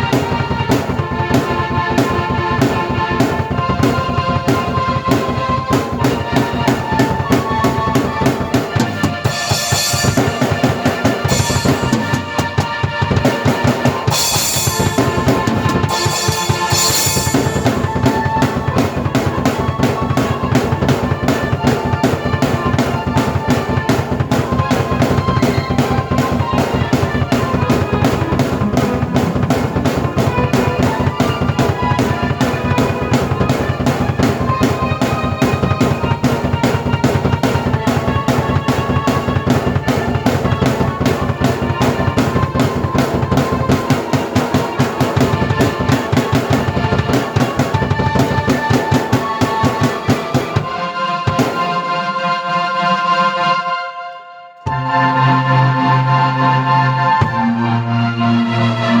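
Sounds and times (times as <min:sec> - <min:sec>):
cymbal crashes: 0:00.0 - 0:51.9
fast drum pattern: 0:00.0 - 0:52.0, 0:57.2 - 0:57.7.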